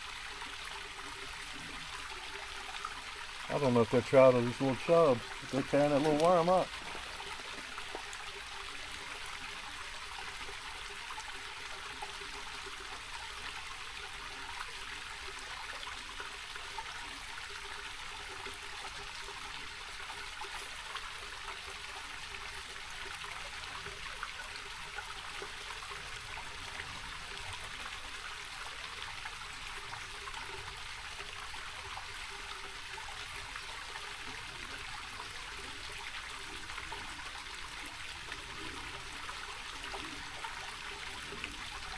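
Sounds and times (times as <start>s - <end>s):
creek babbling over stones: 0.0s - 41.9s.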